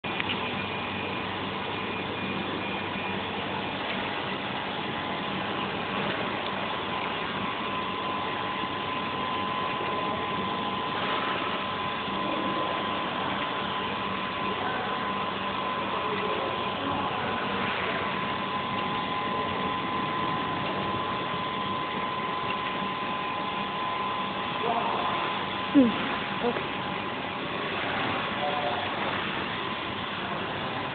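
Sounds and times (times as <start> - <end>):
machine workshop noise: 0.0 - 30.9
thin steady whine: 0.0 - 30.9.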